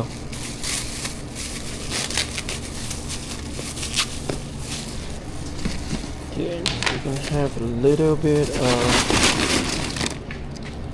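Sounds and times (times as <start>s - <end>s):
plastic packaging crinkling: 0.0s - 5.9s, 6.8s - 10.8s
low steady hum: 0.0s - 10.9s.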